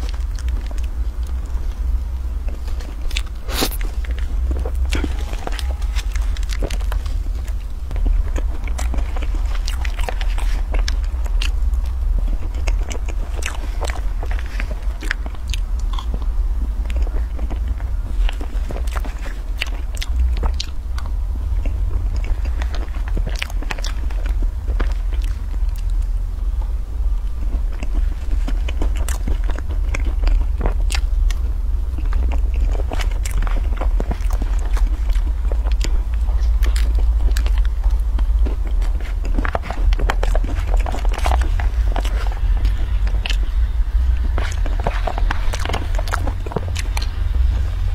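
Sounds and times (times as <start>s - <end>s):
low hum: 0.0s - 47.9s
wet chewing and biting: 0.0s - 47.9s.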